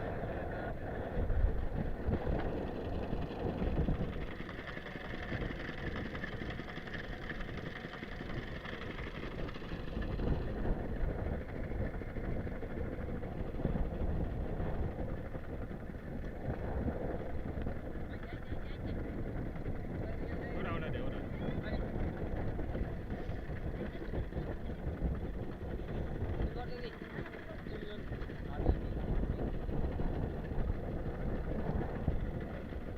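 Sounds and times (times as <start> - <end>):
boat engine running: 0.0 - 32.9
wind buffeting microphone: 0.0 - 32.9.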